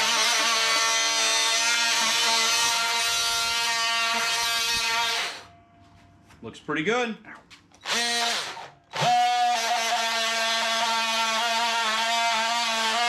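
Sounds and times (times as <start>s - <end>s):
oscillating multi-tool cutting wood: 0.0s - 5.5s, 7.8s - 13.0s.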